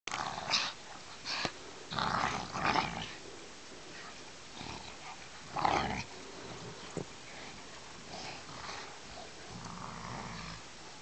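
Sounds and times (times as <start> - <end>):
dogs growling: 0.1 - 10.9.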